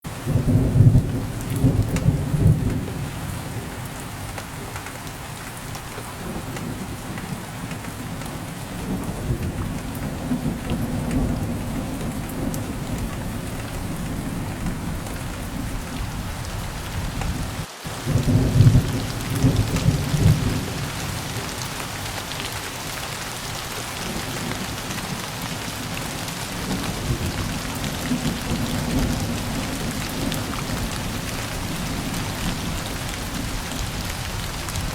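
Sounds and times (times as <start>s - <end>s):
steady rain falling: 0.0s - 34.9s
rolling thunder: 0.2s - 5.0s, 5.6s - 22.5s, 23.4s - 34.9s.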